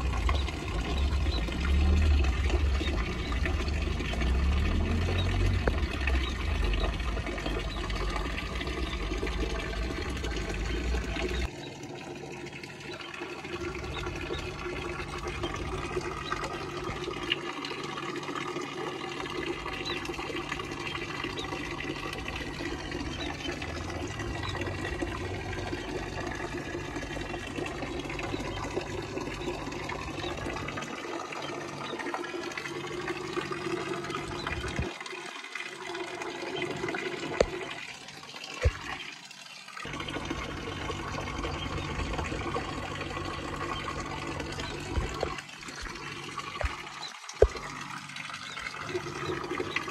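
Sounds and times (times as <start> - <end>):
fountain water splashing into pool: 0.0 - 49.9.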